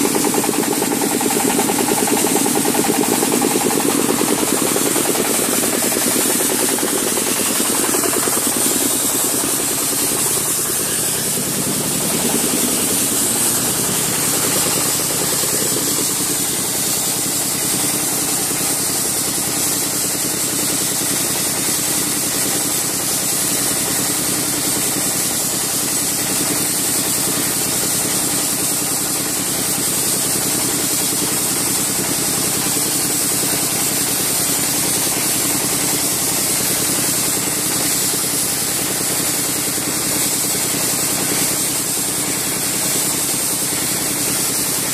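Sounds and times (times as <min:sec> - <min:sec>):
high-pressure water jet hissing: 0:00.0 - 0:44.9
pump unit humming: 0:00.0 - 0:44.9.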